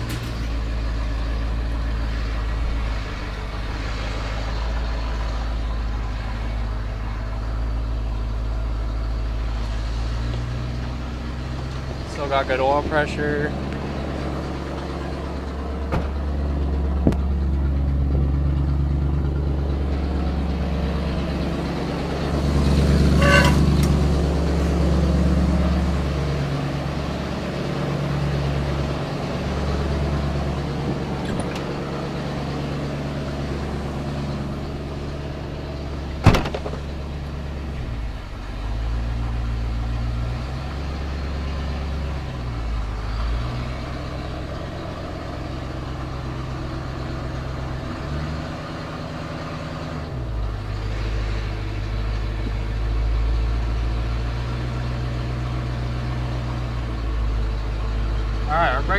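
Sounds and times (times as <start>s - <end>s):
truck engine running: 0.0s - 58.9s.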